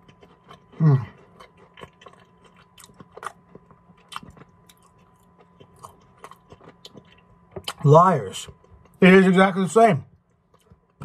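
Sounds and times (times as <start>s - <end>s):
person chewing candy bar: 0.0s - 9.0s, 10.2s - 11.0s.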